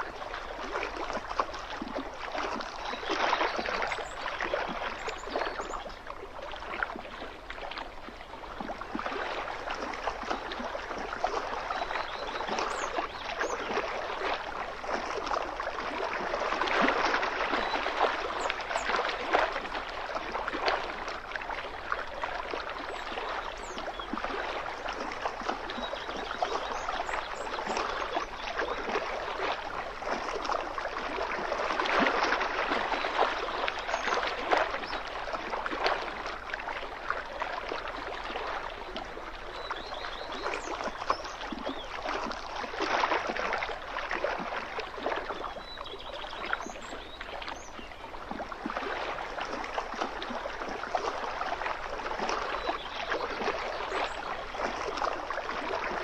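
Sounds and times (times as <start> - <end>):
small waves lapping: 0.0 - 56.0.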